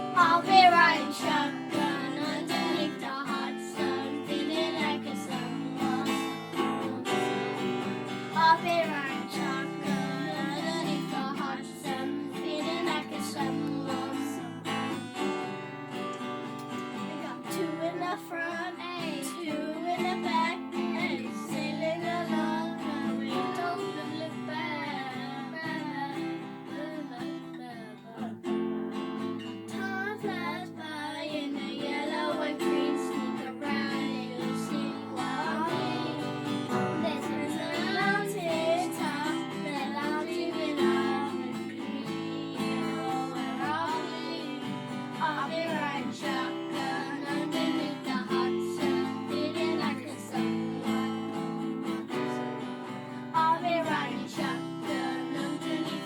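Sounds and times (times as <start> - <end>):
children singing: 0.0 - 15.3, 16.9 - 28.3, 29.7 - 56.0
strummed acoustic guitar: 0.0 - 56.0.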